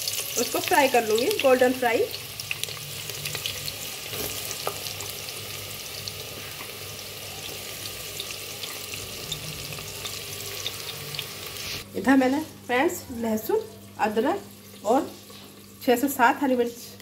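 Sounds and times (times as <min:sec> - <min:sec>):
onions sizzling in hot oil: 0:00.0 - 0:16.9.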